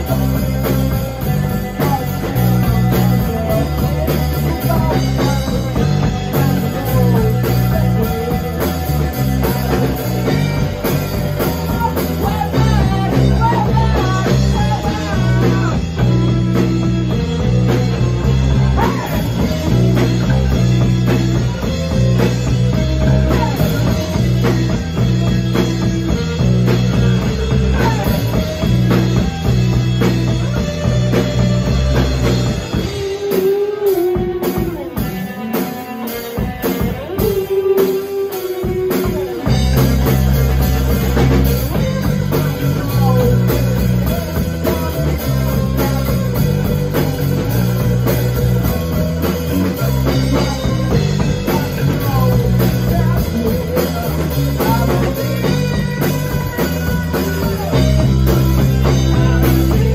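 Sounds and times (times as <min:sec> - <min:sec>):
drum kit: 0:00.0 - 0:59.9
electric bass: 0:00.0 - 0:59.9
electric guitars: 0:00.0 - 0:59.9.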